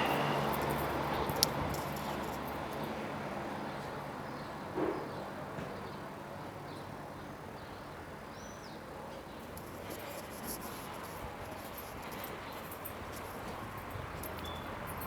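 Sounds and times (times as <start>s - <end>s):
outdoor street background: 0.0s - 15.0s.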